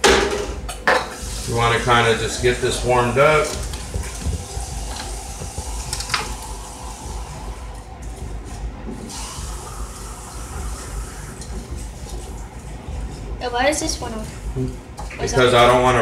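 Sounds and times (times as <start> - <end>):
noodles sizzling in a skillet: 1.1 - 8.1, 9.1 - 16.0.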